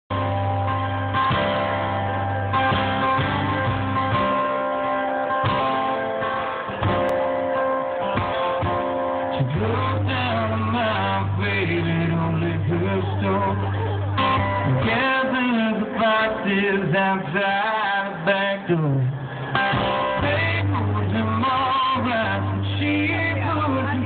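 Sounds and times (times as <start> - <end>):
guitar: 0.1 - 24.0.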